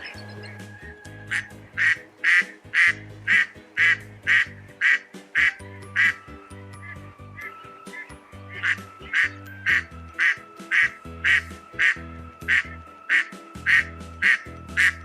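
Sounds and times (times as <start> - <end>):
background music: 0.0 - 15.0
duck quacking: 1.3 - 15.0.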